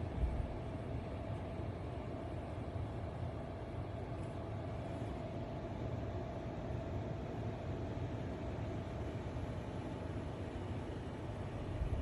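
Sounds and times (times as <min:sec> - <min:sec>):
faint fan hum: 0:00.0 - 0:12.0
fan air rushing: 0:00.0 - 0:12.0.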